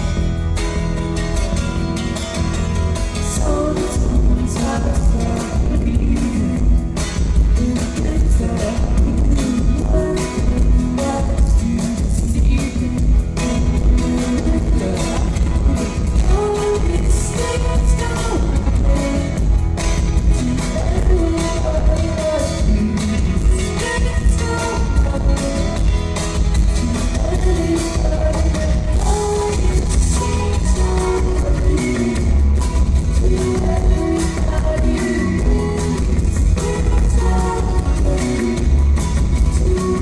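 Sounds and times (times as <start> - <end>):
acoustic guitar: 0.0 - 40.0
bass guitar: 0.0 - 40.0
drums: 0.0 - 40.0
keyboard: 0.0 - 40.0
woman singing: 3.2 - 40.0.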